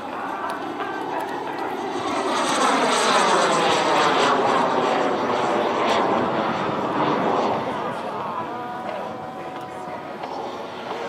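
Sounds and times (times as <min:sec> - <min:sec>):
model jet turbine engine: 0:00.0 - 0:11.0.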